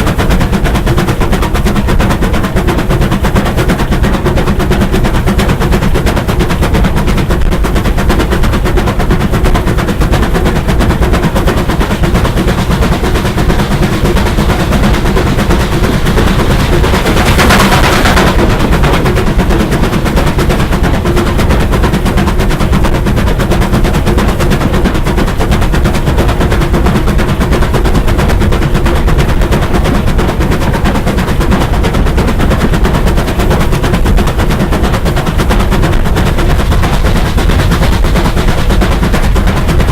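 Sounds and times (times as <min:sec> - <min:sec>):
steam locomotive exhaust beats: 0:00.0 - 0:39.9.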